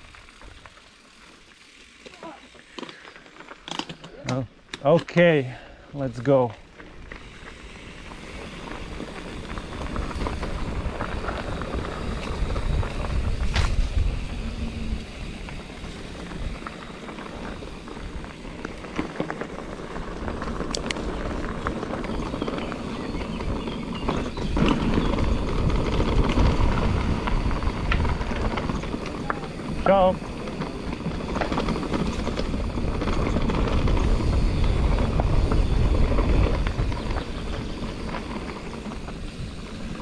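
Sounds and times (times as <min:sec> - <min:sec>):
bike rattling and clicking: 0:00.0 - 0:40.0
bike tyres rolling on dirt: 0:00.0 - 0:40.0.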